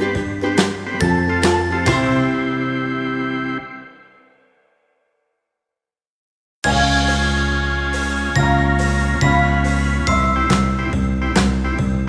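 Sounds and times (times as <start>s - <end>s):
background music with chords: 0.0s - 4.6s, 6.6s - 12.0s.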